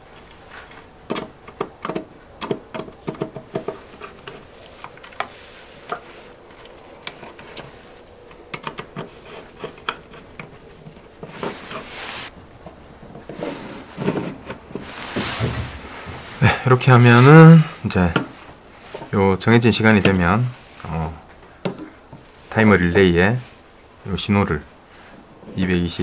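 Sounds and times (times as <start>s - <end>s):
rustle of handling: 0.0s - 25.6s.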